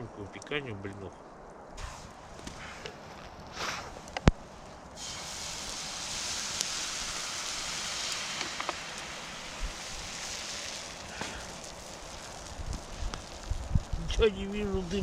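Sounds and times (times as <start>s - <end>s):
campfire cooking hiss and crackles: 0.0s - 15.0s.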